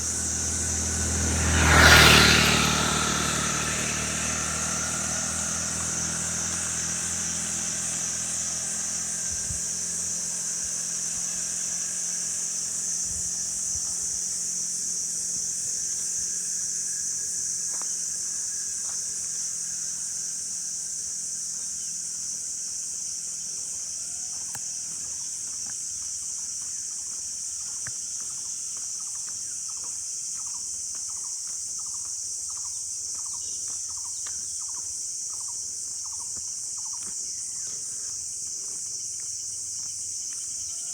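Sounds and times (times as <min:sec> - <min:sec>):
insect chorus: 0:00.0 - 0:40.9
vehicle engine hum: 0:00.0 - 0:40.9.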